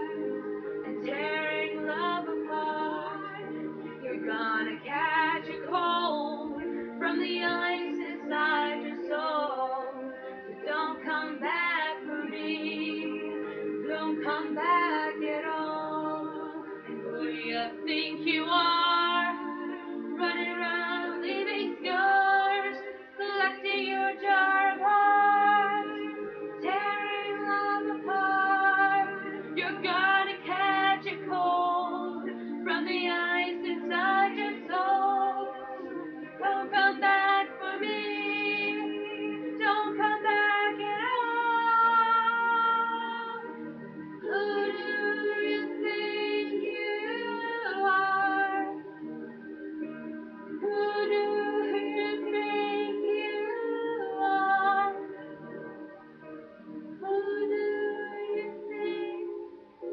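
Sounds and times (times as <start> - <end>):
woman singing: 0.0 - 43.6, 44.2 - 48.9, 50.6 - 55.2, 57.0 - 59.9.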